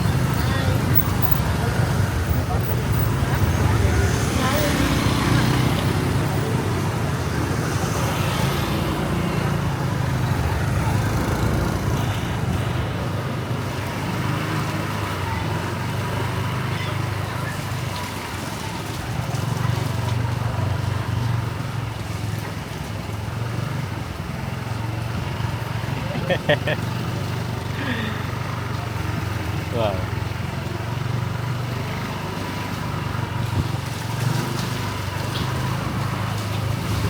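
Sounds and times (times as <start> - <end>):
motorbikes and cars passing: 0.0 - 37.0.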